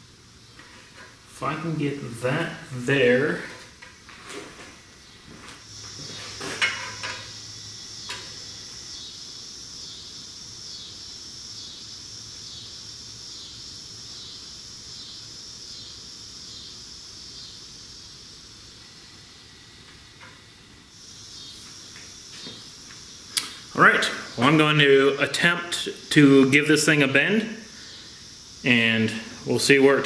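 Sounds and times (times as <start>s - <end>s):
steady high-pitched hiss: 0.0s - 30.0s.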